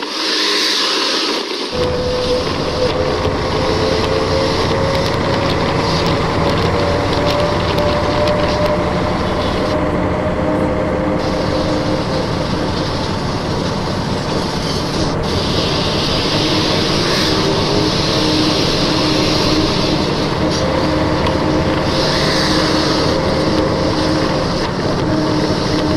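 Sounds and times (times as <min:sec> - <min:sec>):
toy bus engine-like drone: 0:00.0 - 0:25.9.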